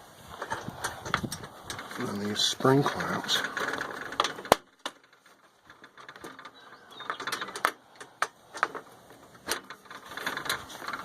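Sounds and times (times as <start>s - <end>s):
light metal rattling: 0.0s - 11.0s.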